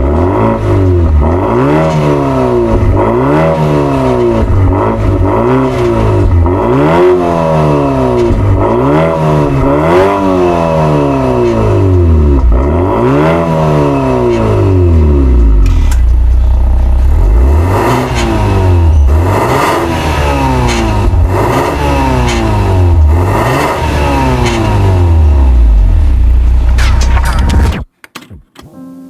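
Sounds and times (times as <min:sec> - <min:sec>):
car engine revving: 0:00.0 - 0:28.7.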